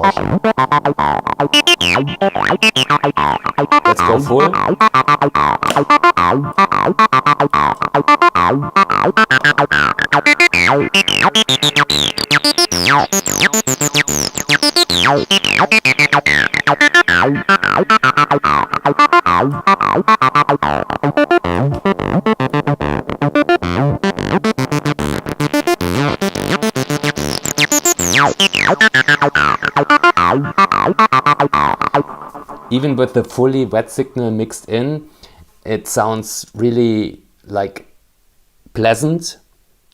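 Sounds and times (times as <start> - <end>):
distorted acid synth bassline: 0.0 - 34.0.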